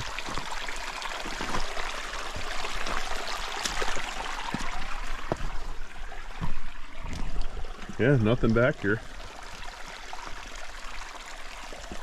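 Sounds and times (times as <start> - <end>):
creek trickling over rocks: 0.0 - 12.0.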